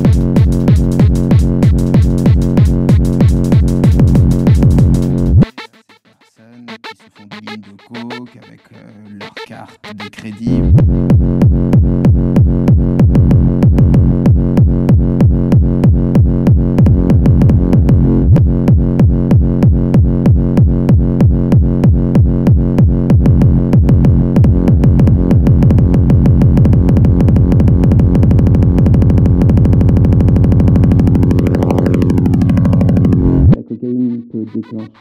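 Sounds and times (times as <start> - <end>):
pounding kick drum: 0.0 - 5.4, 10.7 - 33.6
synth bass: 0.0 - 6.0, 6.6 - 35.0
electronic dance music: 0.0 - 35.0.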